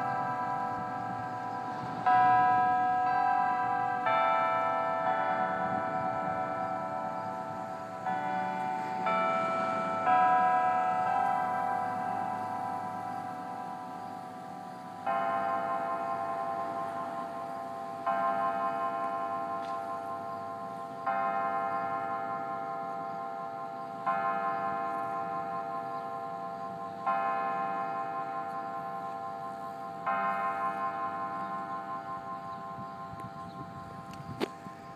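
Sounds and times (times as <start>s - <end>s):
church bell tolling: 0.0s - 34.9s.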